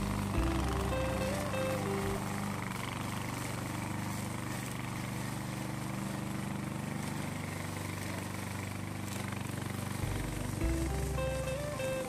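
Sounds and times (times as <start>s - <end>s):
mower engine running: 0.0s - 12.0s.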